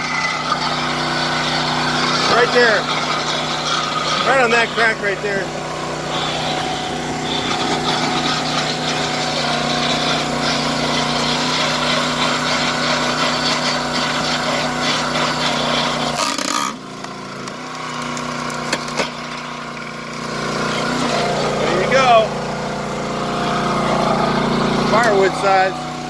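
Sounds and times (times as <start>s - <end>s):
gas engine running under load: 0.0s - 26.0s.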